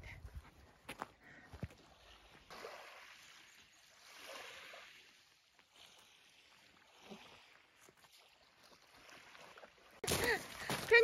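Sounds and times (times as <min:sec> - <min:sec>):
small waves lapping on pebbles: 0:01.7 - 0:11.0.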